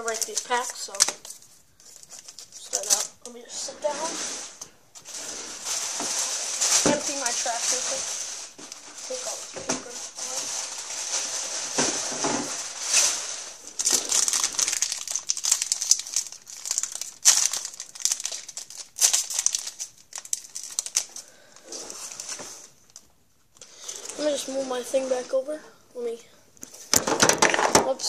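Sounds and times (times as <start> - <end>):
paper crinkling and crumpling: 0.0 - 23.1.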